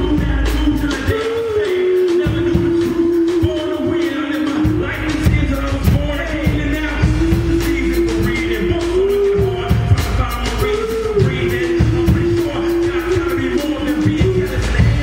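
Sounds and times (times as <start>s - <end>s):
live gospel band music: 0.0s - 15.0s
person singing long notes: 0.0s - 15.0s
drum kit hits: 2.1s - 15.0s.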